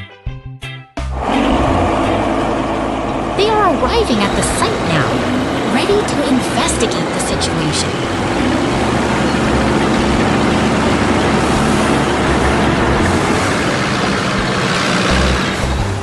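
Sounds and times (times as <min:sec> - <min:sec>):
heavy truck engines rumbling: 0:01.0 - 0:16.0.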